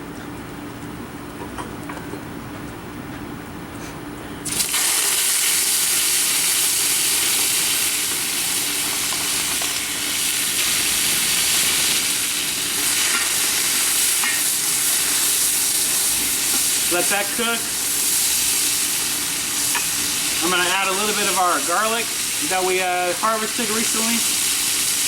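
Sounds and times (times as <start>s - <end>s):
chicken sizzling in a wok: 4.4s - 25.0s.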